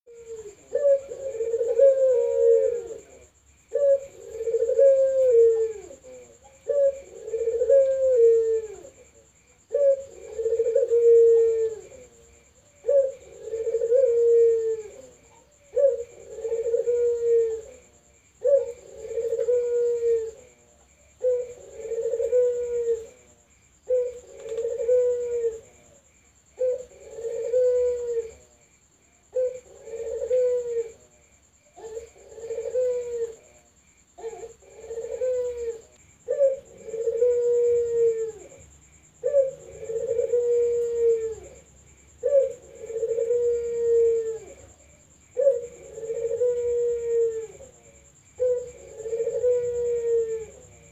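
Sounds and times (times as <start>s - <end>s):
dove cooing: 0.1s - 28.7s, 29.3s - 50.9s.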